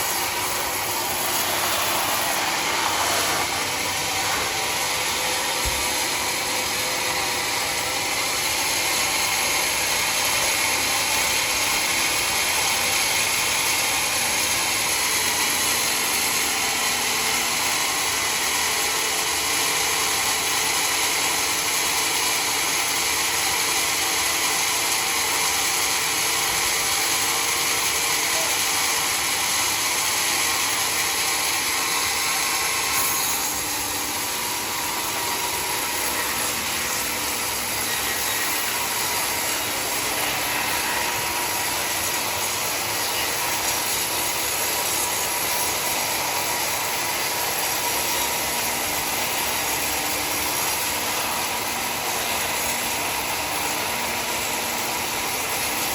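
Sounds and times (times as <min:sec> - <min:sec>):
sawmill saw cutting wood: 0:00.0 - 0:55.9.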